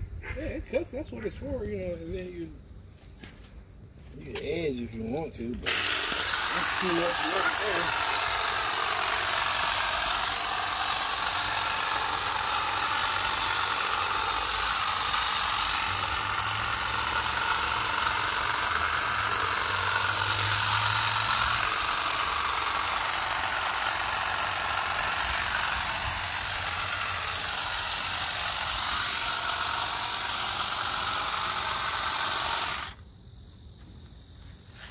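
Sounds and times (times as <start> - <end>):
cordless grass shear clipping grass: 4.3 - 33.0.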